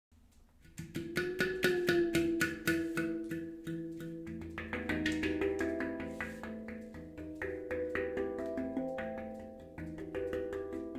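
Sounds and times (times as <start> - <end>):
handpan notes ringing: 1.1 - 10.9.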